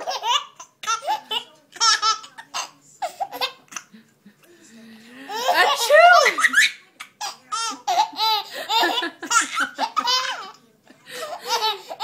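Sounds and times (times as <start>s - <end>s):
baby laughing: 0.0s - 4.0s, 5.3s - 10.6s, 11.2s - 12.0s.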